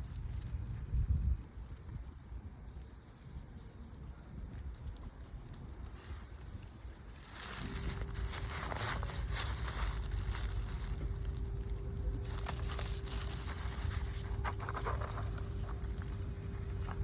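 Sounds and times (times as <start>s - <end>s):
crinkling and rustling handling: 0.0s - 17.0s
low hum and rumble: 0.0s - 17.0s.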